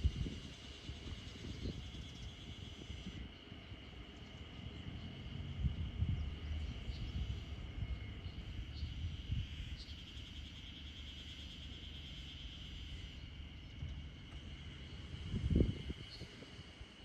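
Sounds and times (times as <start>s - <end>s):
fast pulsing insect trill: 0.0s - 17.0s
insects trilling: 0.0s - 17.0s.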